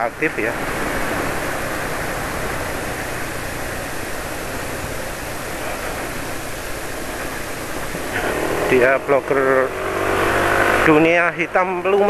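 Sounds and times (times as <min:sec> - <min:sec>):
wind rushing on microphone: 0:00.0 - 0:10.3
scooter engine and road noise: 0:00.0 - 0:12.0.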